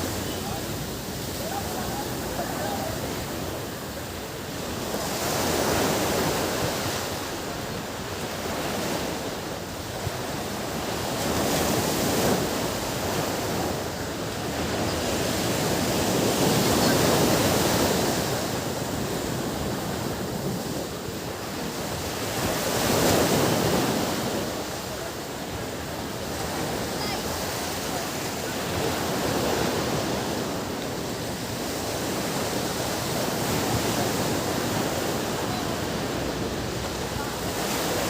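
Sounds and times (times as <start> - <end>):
ocean waves breaking: 0.0 - 38.0.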